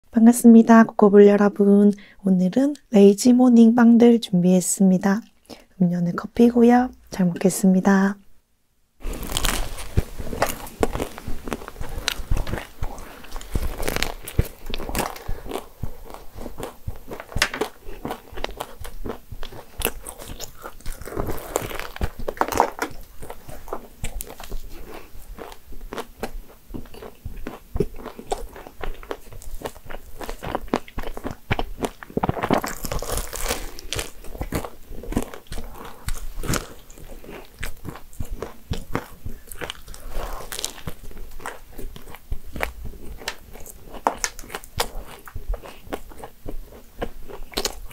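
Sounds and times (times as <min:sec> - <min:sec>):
crunching and chewing pastry: 0:09.0 - 0:47.9.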